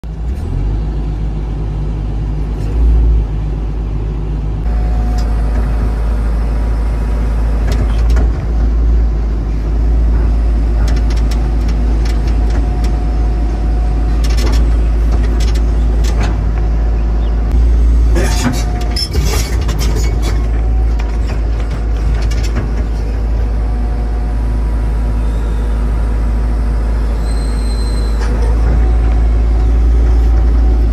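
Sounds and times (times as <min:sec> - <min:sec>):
excavator diesel engine rumble: 0:00.0 - 0:30.9.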